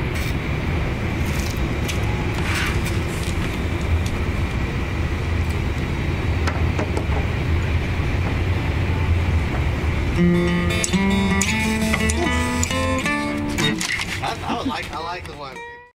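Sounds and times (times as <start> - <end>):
vehicle rumble: 0.0 - 15.7.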